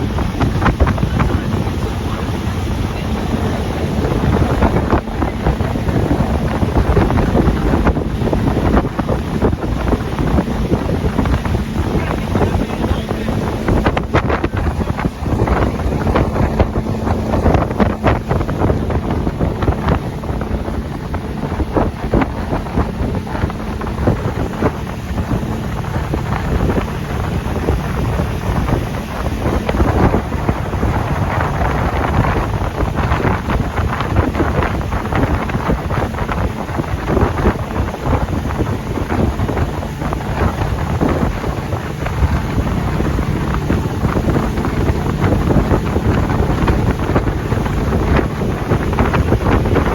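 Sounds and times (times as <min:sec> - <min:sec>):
boat motor: 0:00.0 - 0:49.9
water rushing: 0:00.0 - 0:49.9
wind buffeting microphone: 0:00.0 - 0:49.9.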